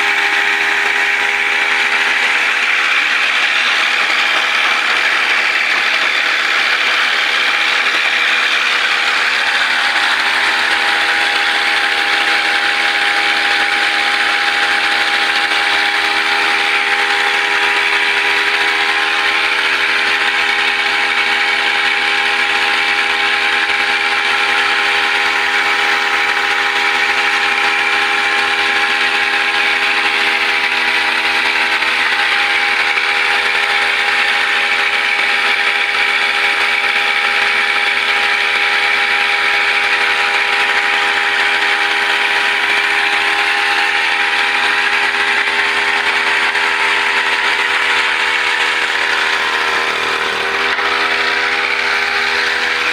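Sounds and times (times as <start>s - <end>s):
brush cutter engine buzzing: 0.0s - 52.9s.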